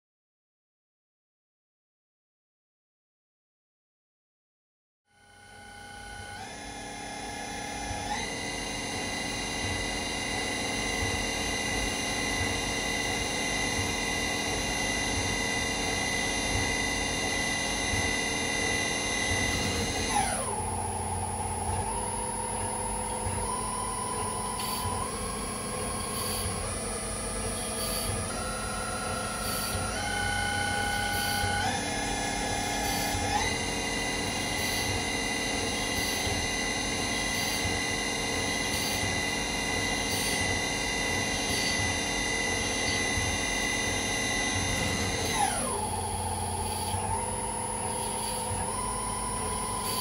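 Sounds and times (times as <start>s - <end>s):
milling spindle whining: 5.5s - 50.0s.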